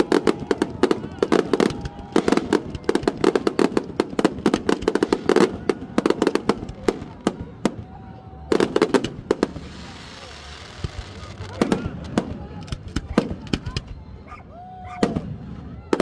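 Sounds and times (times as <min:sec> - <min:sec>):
fireworks cracking and banging: 0:00.0 - 0:14.0.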